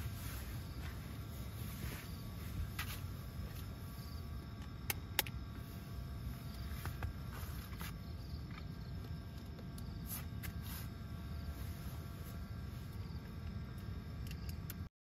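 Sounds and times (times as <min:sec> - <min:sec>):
crickets and insects chirping: 0:00.0 - 0:14.9.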